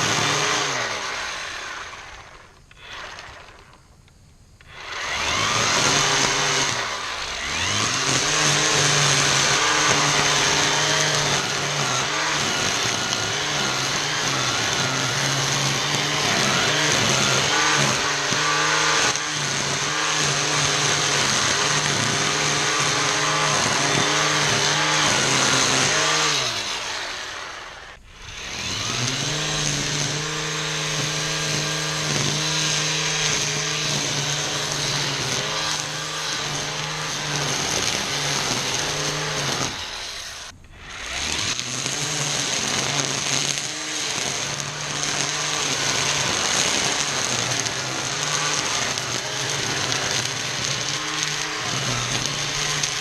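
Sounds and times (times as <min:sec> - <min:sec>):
trimmer line cutting weeds: 0:00.0 - 0:04.0, 0:04.6 - 0:53.0
string trimmer motor hum: 0:00.0 - 0:53.0.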